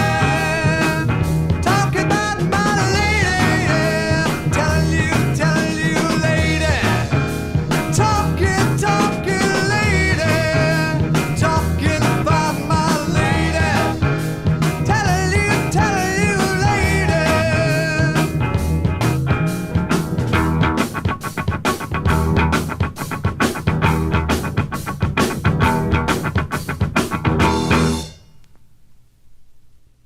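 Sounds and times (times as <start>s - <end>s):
rock band song with vocals: 0.0s - 28.0s.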